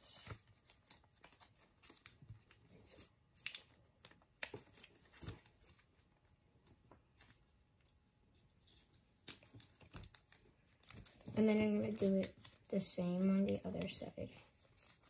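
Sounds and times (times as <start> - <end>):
paper being folded and creased: 0.0 - 15.0.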